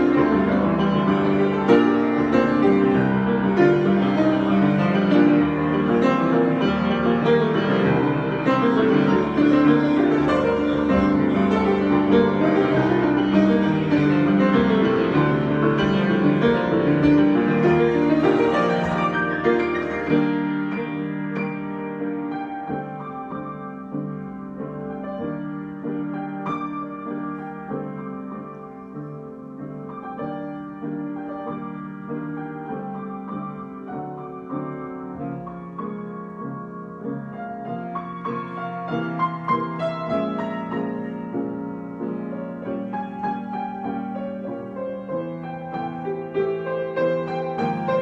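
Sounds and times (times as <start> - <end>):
solo piano: 0.0 - 48.0.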